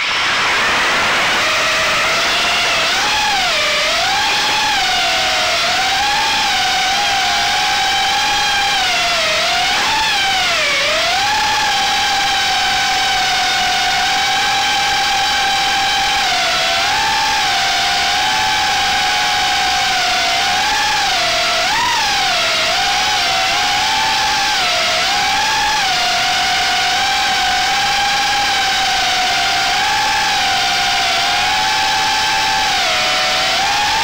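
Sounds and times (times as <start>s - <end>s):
quadcopter motors whining: 0.0s - 34.0s.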